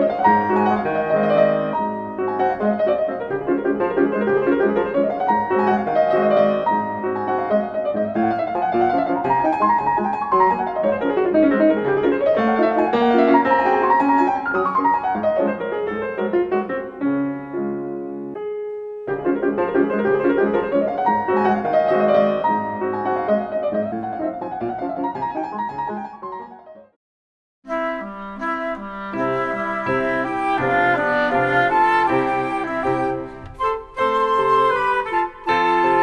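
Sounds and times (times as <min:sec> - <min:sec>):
piano music with rippling runs: 0:00.0 - 0:26.8, 0:27.7 - 0:36.0.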